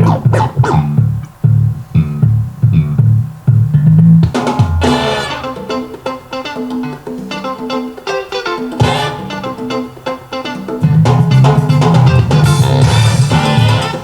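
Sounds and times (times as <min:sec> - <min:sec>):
rock-funk song with bass guitar: 0:00.0 - 0:14.0.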